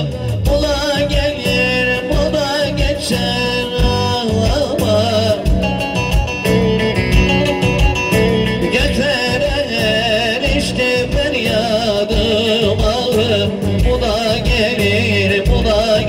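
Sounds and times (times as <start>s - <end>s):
keyboard with steady beat: 0.0s - 16.0s
man singing: 0.0s - 16.0s
plucked lute: 0.0s - 16.0s.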